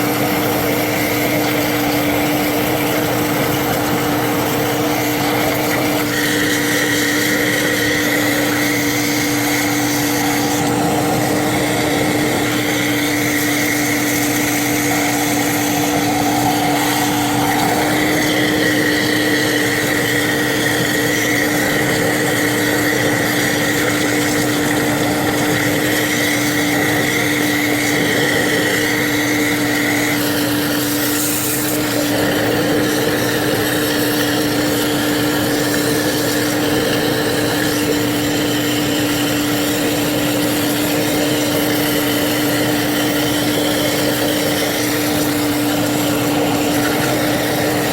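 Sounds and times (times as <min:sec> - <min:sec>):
motor whining steadily: 0:00.0 - 0:47.9.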